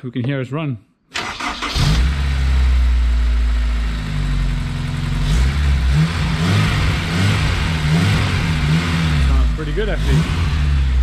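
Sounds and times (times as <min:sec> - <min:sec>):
car engine cranking and idling: 0:01.2 - 0:11.0.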